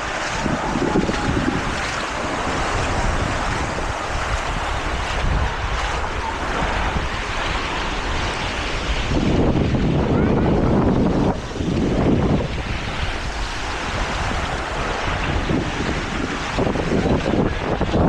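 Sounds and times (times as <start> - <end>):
waves washing on a beach: 0.0 - 18.0
wind buffeting microphone: 0.0 - 18.0.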